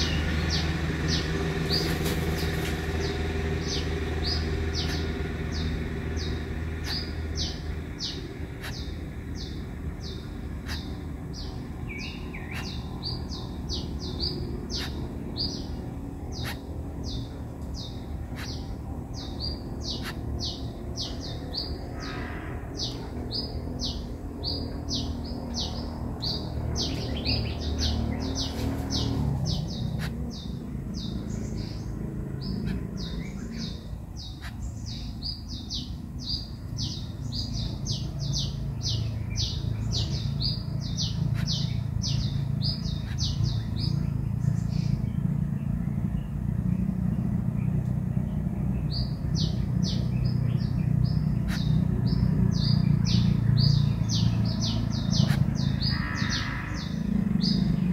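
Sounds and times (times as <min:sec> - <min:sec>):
bird chirping: 0:00.0 - 0:57.9
low steady rumble: 0:00.0 - 0:57.9.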